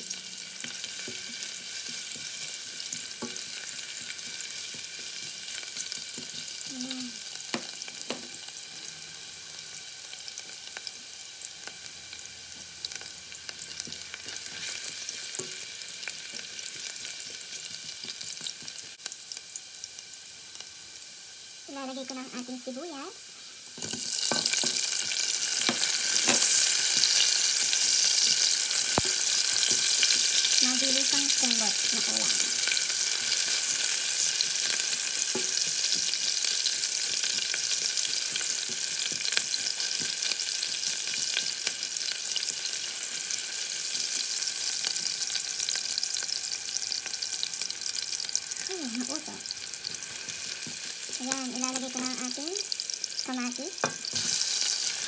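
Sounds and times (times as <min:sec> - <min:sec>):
onions sizzling in hot oil: 0:00.0 - 0:55.0.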